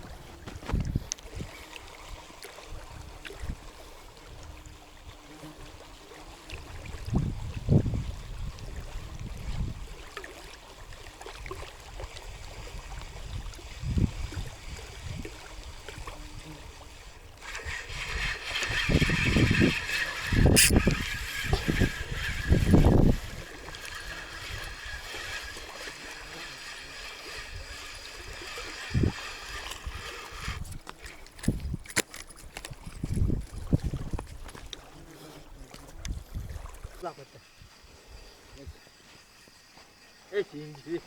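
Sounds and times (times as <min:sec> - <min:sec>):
water splashing and gurgling: 0:00.0 - 0:37.9.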